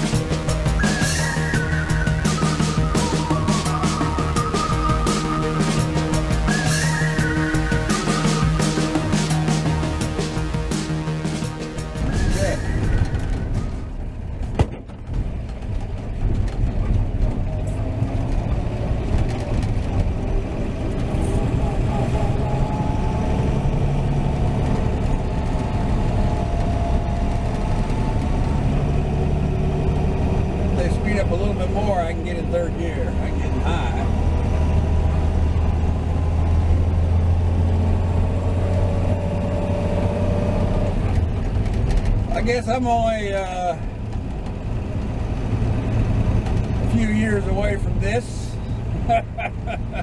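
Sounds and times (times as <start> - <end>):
pickup truck engine droning: 0.0 - 15.4, 16.9 - 50.0.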